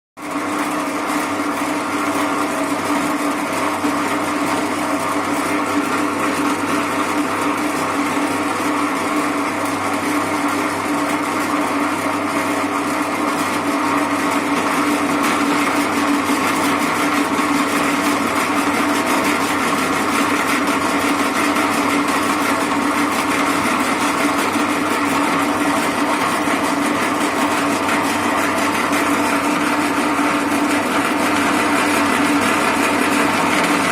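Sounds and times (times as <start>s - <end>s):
pillar drill motor humming: 2.4s - 33.9s.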